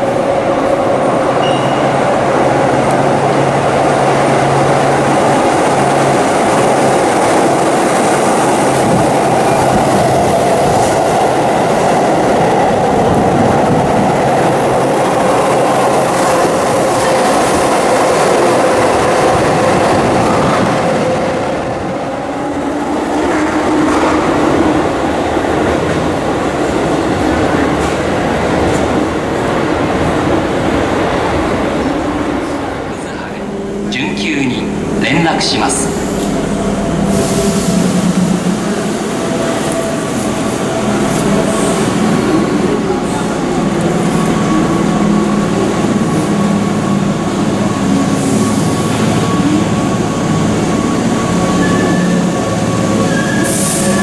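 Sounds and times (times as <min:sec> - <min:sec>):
train wheels rumbling on rails: 0:00.0 - 0:54.0
train whine: 0:00.0 - 0:54.0.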